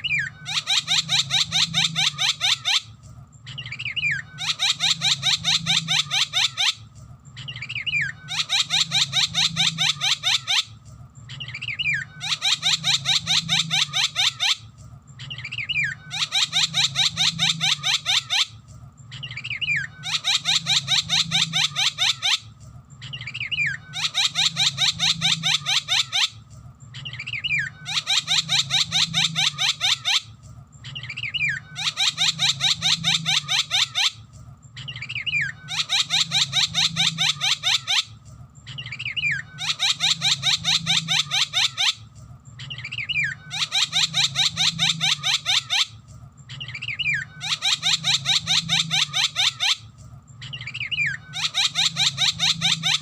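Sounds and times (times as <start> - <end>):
faint low hum: 0.0 - 53.0.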